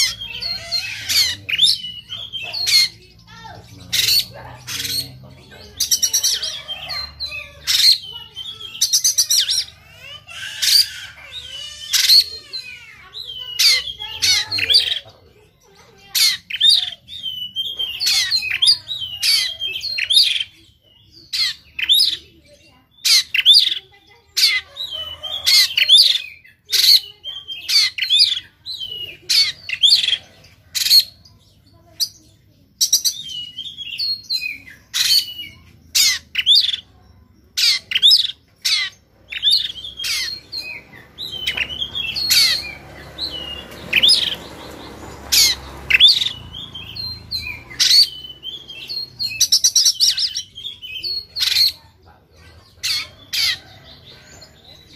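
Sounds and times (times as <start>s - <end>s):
magpie-robin singing harshly: 0.0s - 54.9s.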